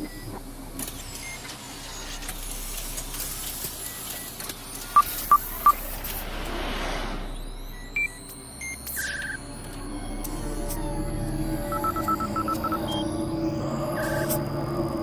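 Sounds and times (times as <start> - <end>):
electronic computer beeps: 0.0 - 6.2, 7.2 - 15.0.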